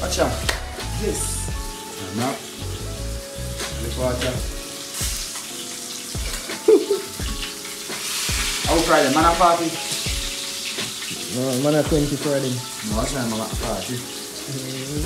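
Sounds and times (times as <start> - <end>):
background music with bass line: 0.0 - 5.5, 6.1 - 15.0
fish sizzling in oil: 0.0 - 15.0.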